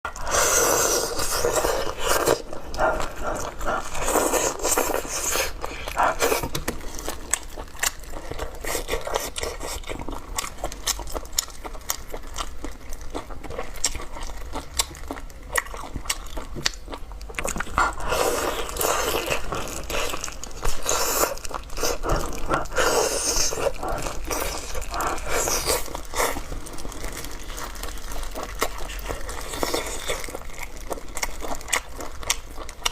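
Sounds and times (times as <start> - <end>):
person biting and chewing food: 0.1 - 32.9.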